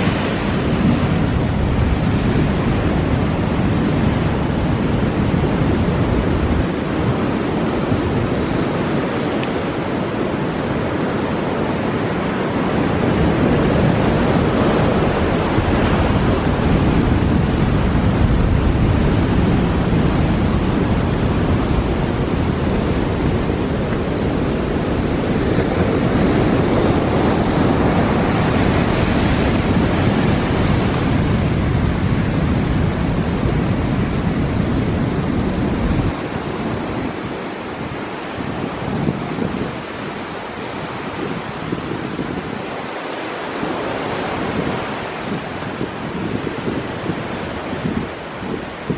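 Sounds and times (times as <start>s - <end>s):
ocean surf breaking: 0.0s - 48.9s
wind buffeting microphone: 0.0s - 48.9s.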